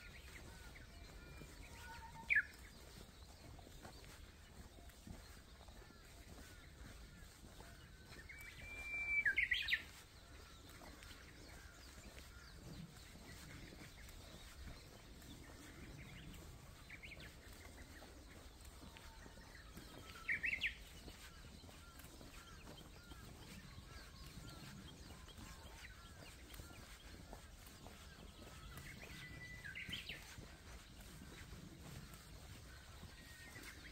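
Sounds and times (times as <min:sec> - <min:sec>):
wild birds calling: 0:00.0 - 0:33.9.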